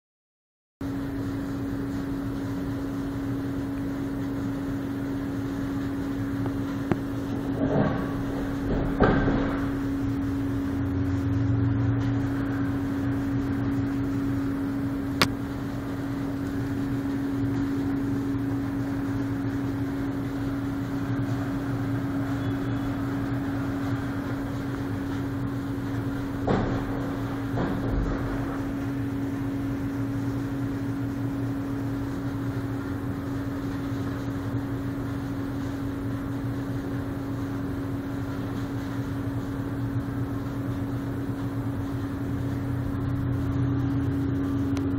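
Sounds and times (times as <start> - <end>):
low machinery hum: 0.8 - 44.9.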